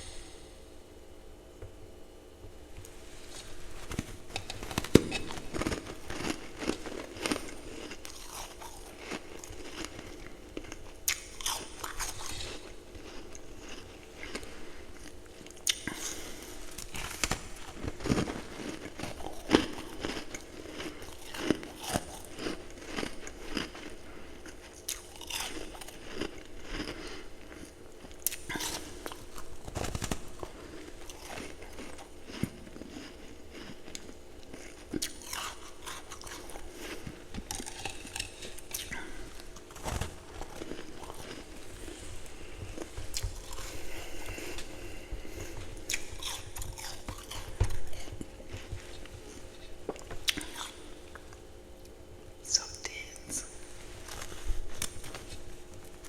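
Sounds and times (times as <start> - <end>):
person chewing ice: 3.8 - 51.9.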